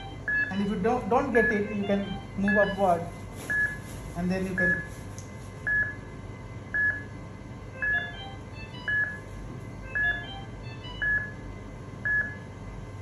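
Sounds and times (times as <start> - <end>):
patient monitor beeping: 0.0 - 12.8.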